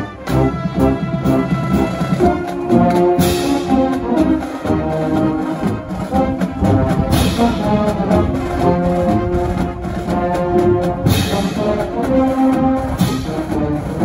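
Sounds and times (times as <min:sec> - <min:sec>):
drumline: 0:00.0 - 0:14.0
marching band brass playing: 0:00.0 - 0:14.0.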